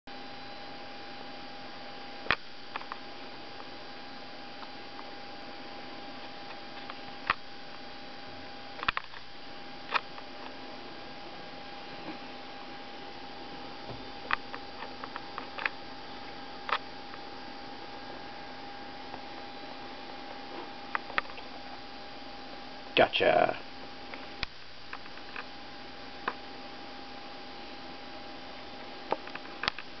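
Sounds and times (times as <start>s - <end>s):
electrical hum with hiss: 0.1s - 30.0s.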